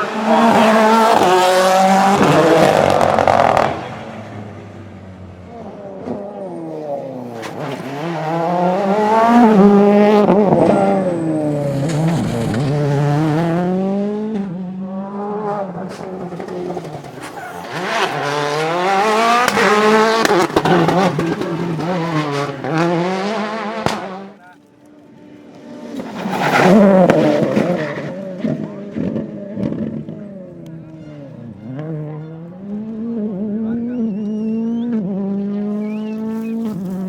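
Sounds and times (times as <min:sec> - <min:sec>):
rally car engine revving: 0:00.0 - 0:24.4, 0:25.0 - 0:37.0.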